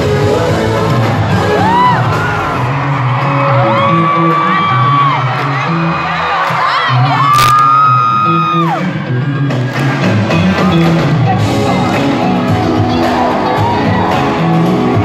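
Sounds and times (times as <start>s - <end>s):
live pop band playing: 0.0s - 15.0s
crowd cheering: 1.2s - 15.0s.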